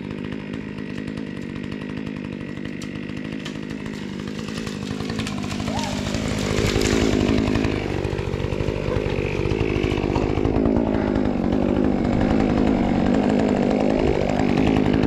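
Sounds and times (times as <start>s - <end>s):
chainsaw idling: 0.0s - 15.0s.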